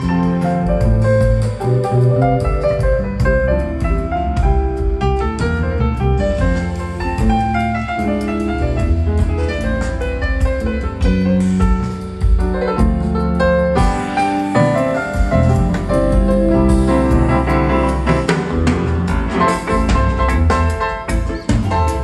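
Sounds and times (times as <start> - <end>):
live band music over speakers: 0.0 - 22.0.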